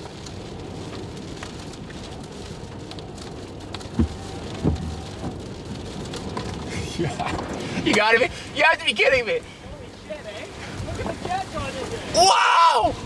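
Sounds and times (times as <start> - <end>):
rain and wind rushing: 0.0 - 13.0.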